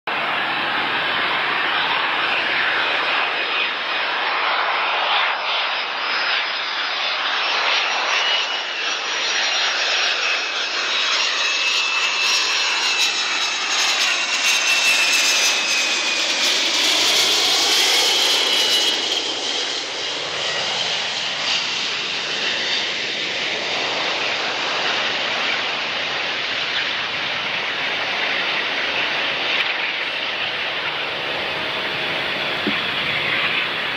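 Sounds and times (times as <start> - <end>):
jet airliner roar with high whine: 0.1 - 33.9.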